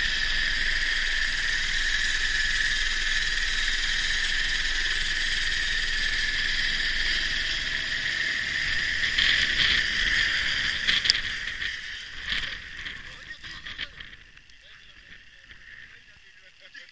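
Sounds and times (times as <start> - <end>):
helicopter turbine and rotor: 0.0 - 16.4.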